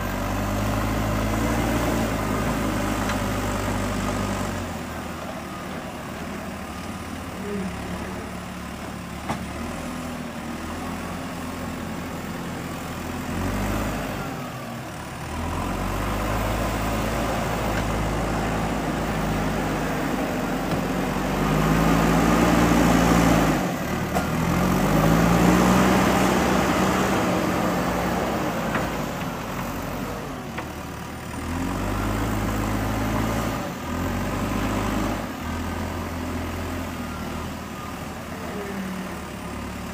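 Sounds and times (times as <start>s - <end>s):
backhoe diesel engine revving: 0.0s - 39.9s.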